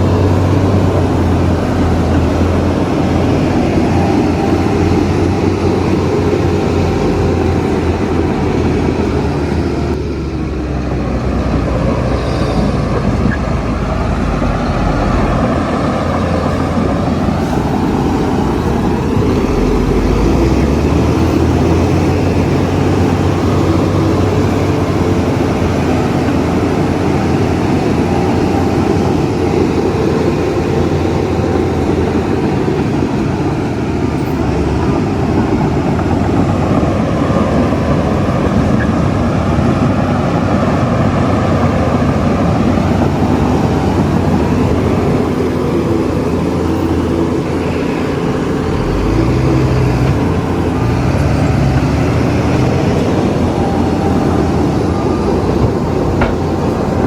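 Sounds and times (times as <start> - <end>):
heavy diesel machinery rumbling: 0.0 - 57.0.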